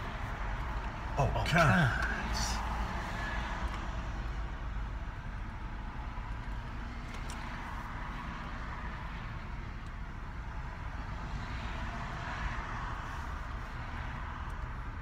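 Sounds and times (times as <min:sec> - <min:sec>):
car engine idling rumble: 0:00.0 - 0:15.0.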